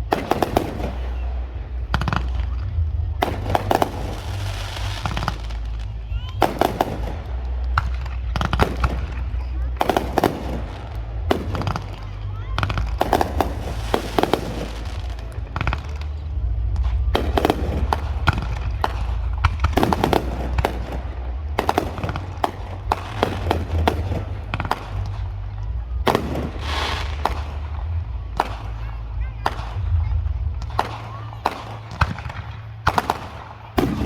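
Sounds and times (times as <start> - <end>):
fireworks bangs and crackling: 0.0 - 34.0
low rumble: 0.0 - 34.0.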